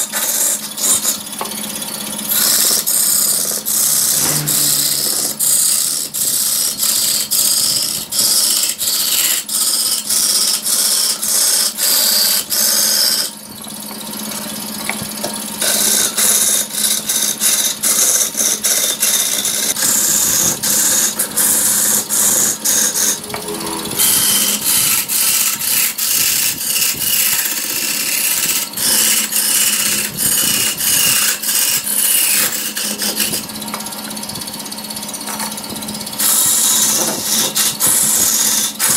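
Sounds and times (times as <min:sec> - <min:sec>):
lathe tool cutting wood: 0:00.0 - 0:38.9
steady lathe hum: 0:00.0 - 0:38.9.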